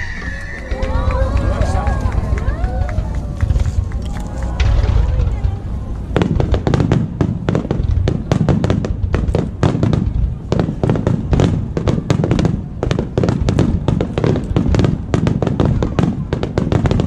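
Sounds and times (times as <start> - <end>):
low booming rumble: 0.0 - 17.0
fireworks sharp bangs: 0.7 - 17.0.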